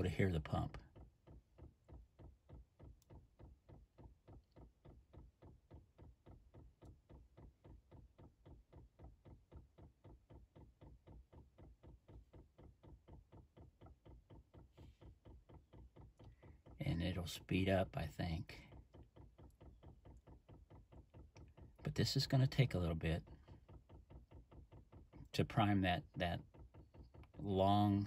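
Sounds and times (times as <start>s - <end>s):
fuel pump rapid ticking: 0.0s - 28.0s.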